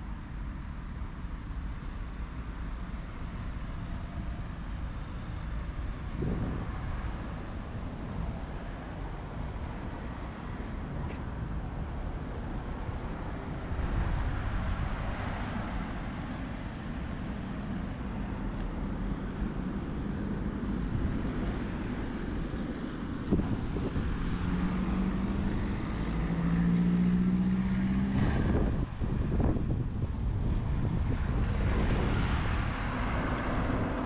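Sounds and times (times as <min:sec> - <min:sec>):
street traffic noise: 0:00.0 - 0:34.0
passing car engine hum: 0:04.4 - 0:34.0.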